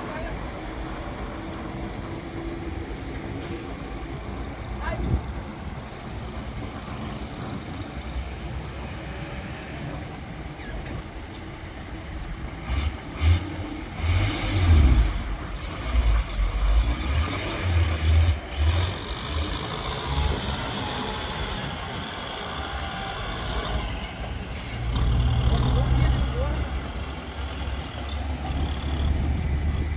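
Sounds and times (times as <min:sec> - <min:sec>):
heavy vehicle engines revving: 0:00.0 - 0:29.9.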